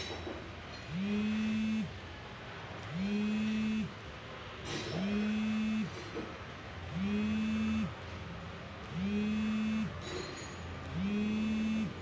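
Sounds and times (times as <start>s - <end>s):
fuel pump motor whirring: 0.8s - 10.2s, 10.8s - 12.0s.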